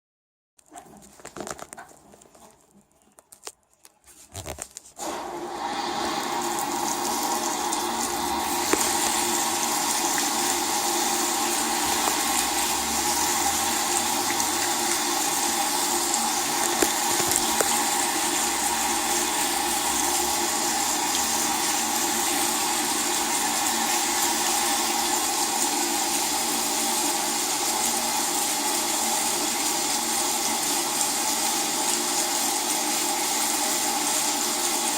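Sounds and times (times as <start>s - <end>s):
water rushing into washing machine: 5.0s - 34.9s.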